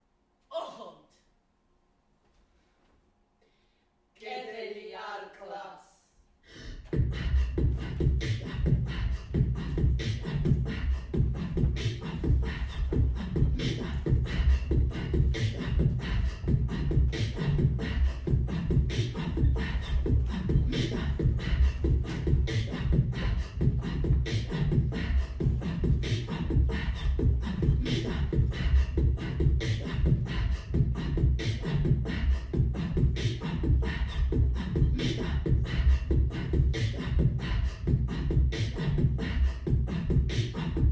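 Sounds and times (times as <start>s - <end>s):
rhythmic percussive music: 6.9s - 40.9s.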